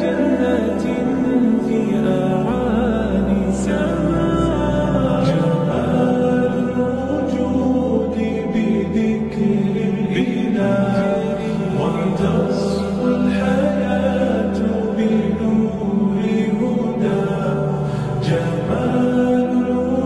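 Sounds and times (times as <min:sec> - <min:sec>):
layered voices holding low notes: 0:00.0 - 0:20.0.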